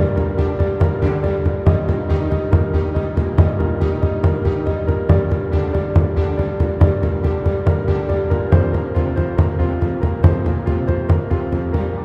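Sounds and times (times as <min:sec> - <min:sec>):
driving low drum beat: 0:00.0 - 0:12.0.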